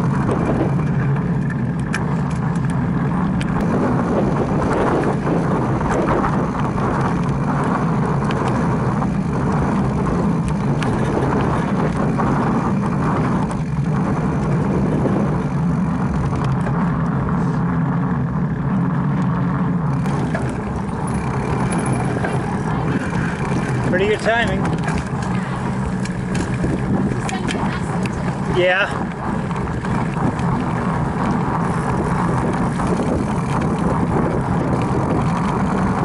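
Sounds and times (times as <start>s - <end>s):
bike rattling clicks: 0.0s - 36.0s
bike tyres on dirt trail: 0.0s - 36.0s
wind on microphone: 0.0s - 36.0s.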